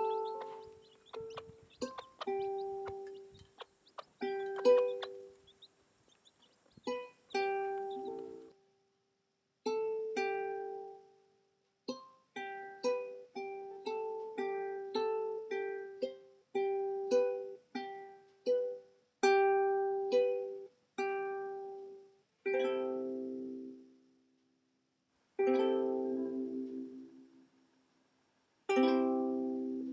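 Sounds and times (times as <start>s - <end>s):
plucked string melody: 0.0s - 5.4s, 6.8s - 8.6s, 9.6s - 11.2s, 11.9s - 23.9s, 25.4s - 27.4s, 28.7s - 29.9s.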